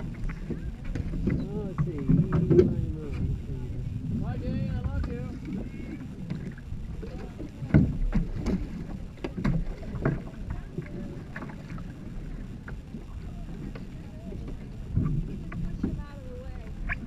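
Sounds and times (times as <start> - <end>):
paddle and hull knocks: 0.0 - 17.0
wind rumble on microphone: 0.0 - 17.0.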